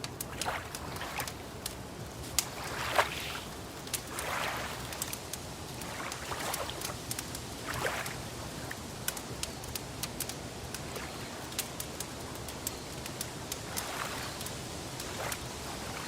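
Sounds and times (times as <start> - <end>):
wood fire crackling: 0.0 - 16.0
water lapping: 0.1 - 12.5, 13.5 - 16.0.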